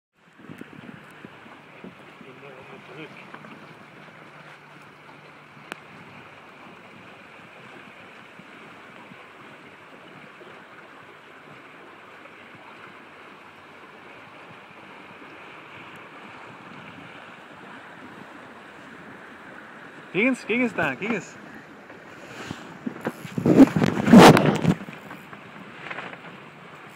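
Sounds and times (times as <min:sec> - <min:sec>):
water rushing along boat hulls: 0:00.1 - 0:26.9
wind: 0:00.1 - 0:26.9.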